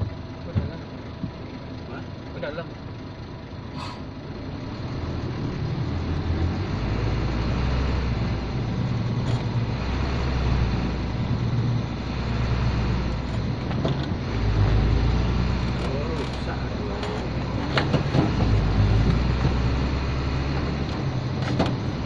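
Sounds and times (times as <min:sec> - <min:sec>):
diesel engine rumble: 0:00.0 - 0:22.0.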